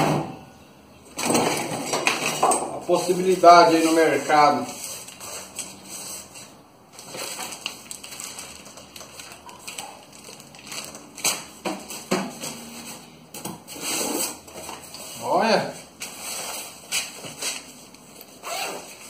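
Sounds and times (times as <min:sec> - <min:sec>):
cardboard and plastic rustling: 0:02.9 - 0:19.0.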